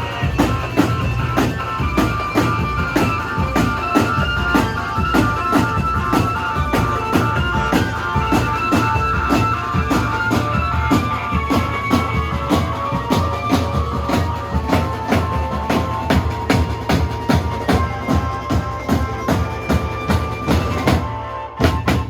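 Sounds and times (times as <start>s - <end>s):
drums steady beat: 0.0s - 22.0s
held melody line: 0.0s - 22.0s.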